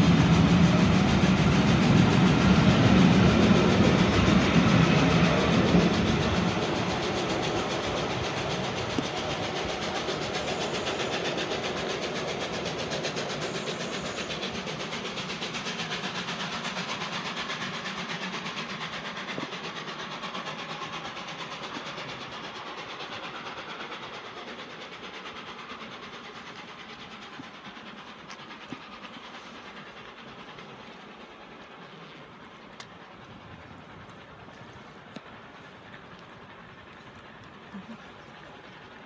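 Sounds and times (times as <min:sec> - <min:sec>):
steam locomotive exhaust beat: 0:00.0 - 0:39.0
train wheels clattering on rails: 0:00.0 - 0:39.0.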